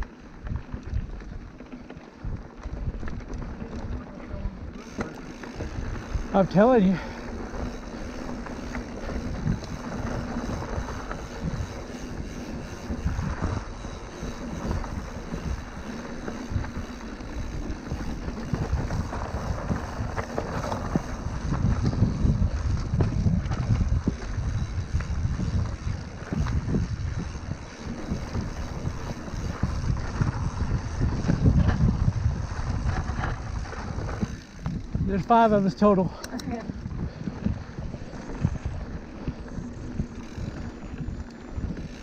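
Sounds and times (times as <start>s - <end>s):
bike rumbling over dirt trail: 0.0s - 42.0s
wind buffeting microphone: 0.0s - 42.0s.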